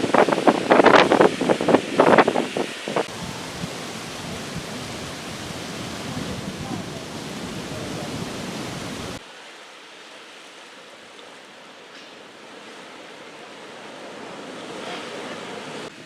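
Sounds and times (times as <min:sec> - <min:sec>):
surf washing on a beach: 0:00.0 - 0:16.0.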